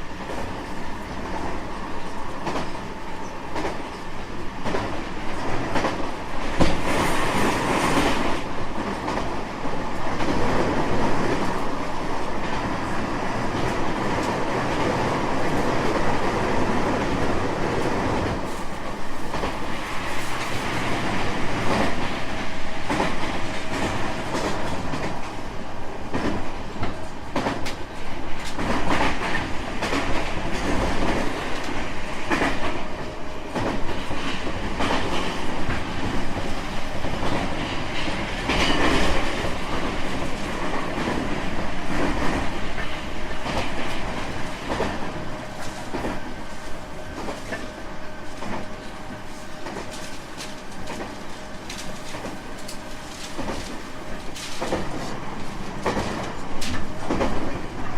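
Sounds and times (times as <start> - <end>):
train interior rumble: 0.0 - 57.9.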